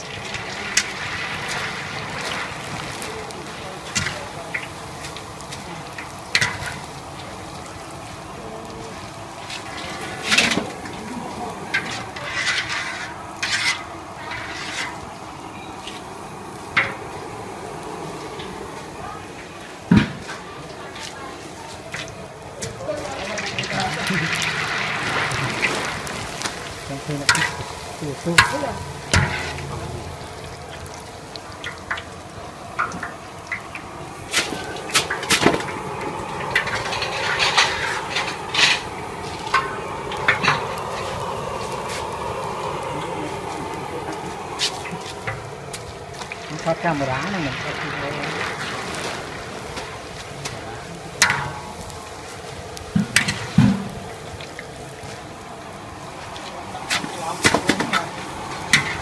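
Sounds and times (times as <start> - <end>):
hot oil sizzling: 0.0 - 59.0
steady hiss: 0.0 - 59.0.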